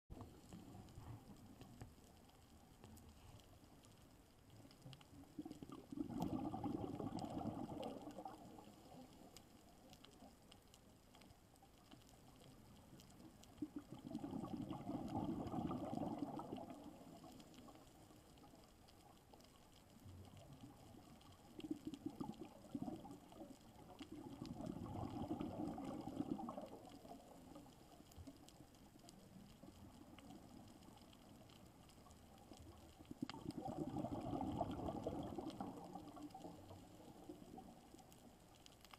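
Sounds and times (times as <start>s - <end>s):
underwater bubbling from regulator: 4.6s - 10.4s, 12.3s - 19.2s, 19.9s - 38.5s.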